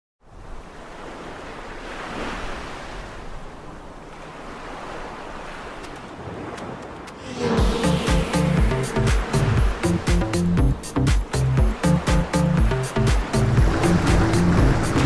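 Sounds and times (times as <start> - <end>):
ocean waves breaking: 0.3 - 15.0.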